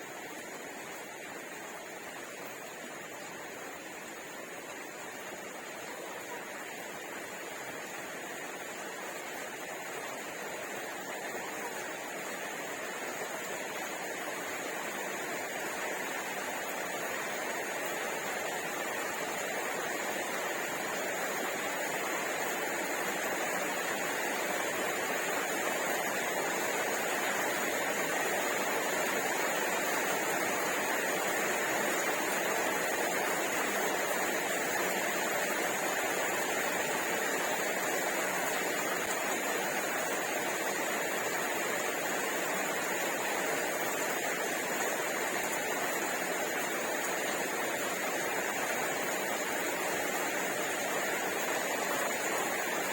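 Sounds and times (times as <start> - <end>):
steady hiss: 0.0 - 52.9.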